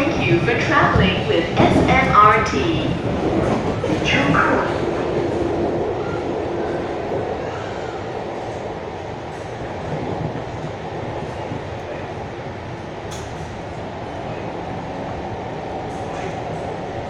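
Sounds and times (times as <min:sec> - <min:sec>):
metro train running inside car: 0:00.0 - 0:17.0.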